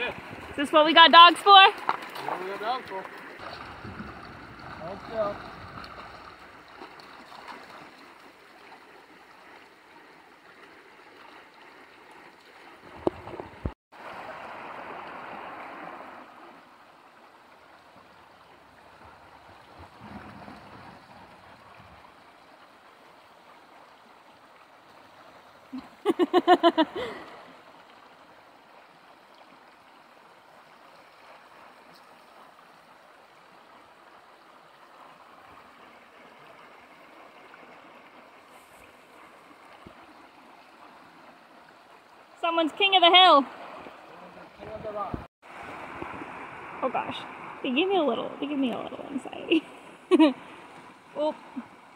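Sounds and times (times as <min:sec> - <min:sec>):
river flowing over rocks: 0:00.0 - 0:44.7.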